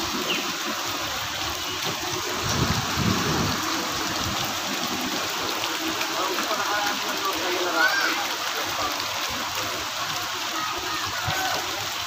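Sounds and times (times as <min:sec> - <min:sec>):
rain on standing water: 0:00.0 - 0:12.0.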